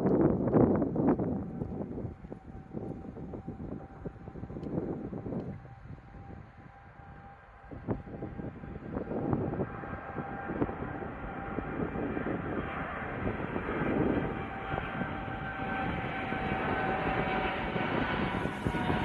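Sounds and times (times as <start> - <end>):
airliner engines whining at takeoff: 0.0 - 19.0.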